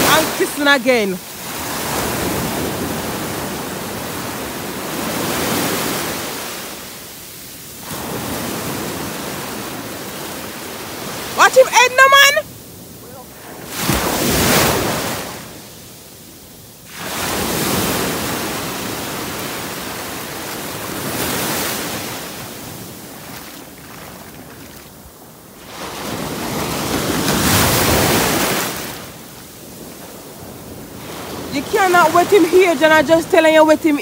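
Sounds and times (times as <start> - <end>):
small waves breaking on shore: 0.0 - 34.0.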